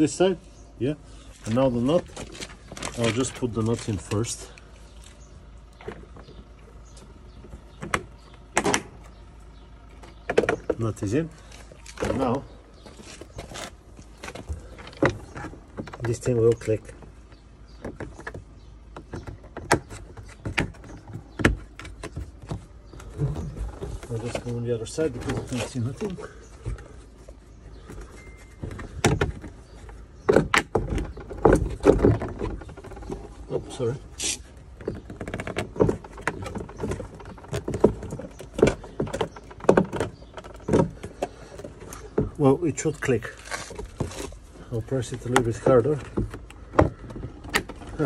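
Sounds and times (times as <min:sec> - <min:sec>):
plastic knocking and creaking: 0:01.4 - 0:04.4, 0:10.0 - 0:33.8, 0:34.5 - 0:48.0.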